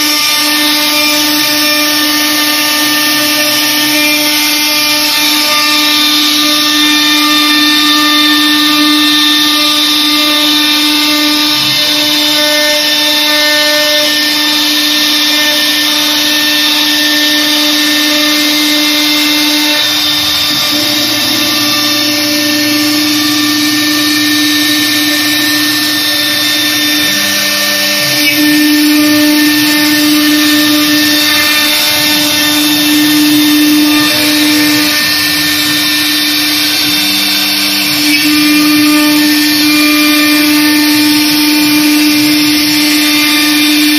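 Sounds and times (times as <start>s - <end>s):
router bit cutting fibreboard: 0.0s - 43.9s
router spindle whine: 0.0s - 43.9s.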